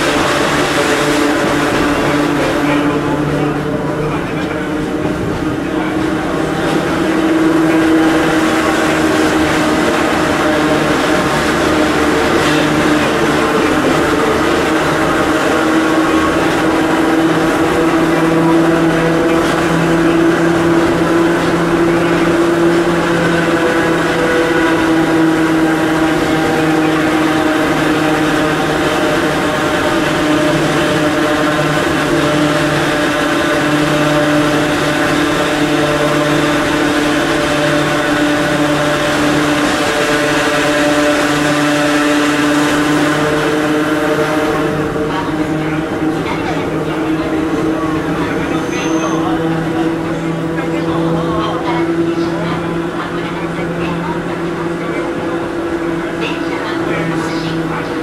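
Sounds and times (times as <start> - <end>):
electric train motor whine: 0.0 - 58.0
wheel and track rumble: 0.0 - 58.0.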